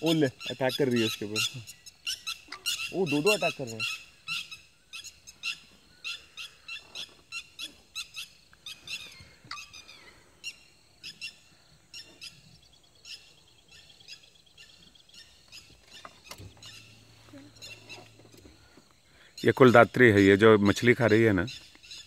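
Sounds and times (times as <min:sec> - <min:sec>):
birds' sharp alarm calls: 0:00.0 - 0:22.0.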